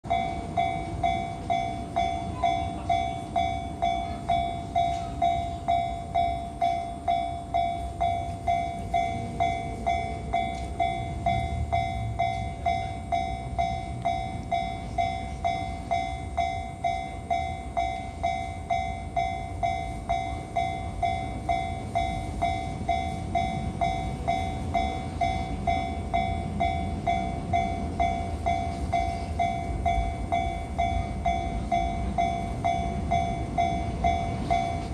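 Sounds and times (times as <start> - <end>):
freight train running: 0.0 - 34.9
level crossing warning bell: 0.0 - 34.9.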